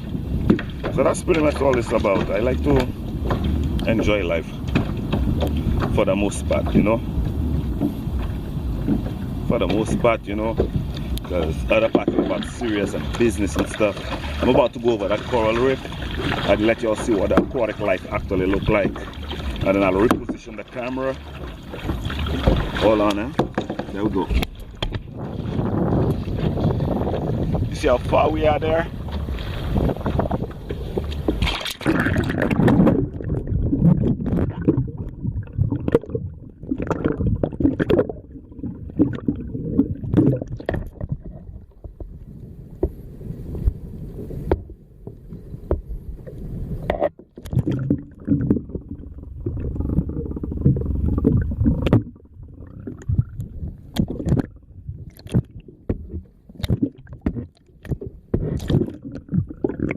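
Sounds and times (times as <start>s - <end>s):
water sloshing around kayak: 0.0s - 59.9s.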